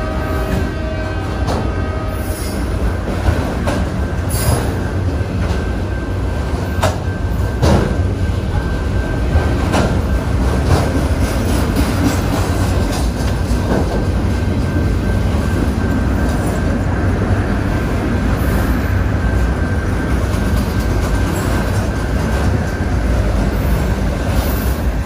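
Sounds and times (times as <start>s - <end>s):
steel wheels rumbling on rail: 0.0s - 25.0s
wheels clacking on rail: 0.0s - 25.0s.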